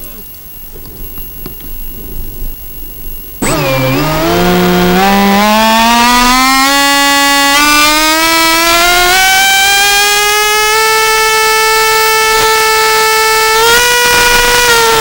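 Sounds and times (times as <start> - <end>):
small propeller craft motor: 0.7 - 15.0.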